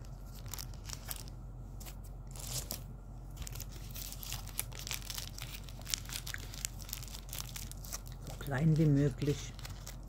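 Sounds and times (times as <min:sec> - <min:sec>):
wrapper crackling: 0:00.0 - 0:01.3, 0:02.3 - 0:10.0
low steady hum: 0:00.0 - 0:10.0.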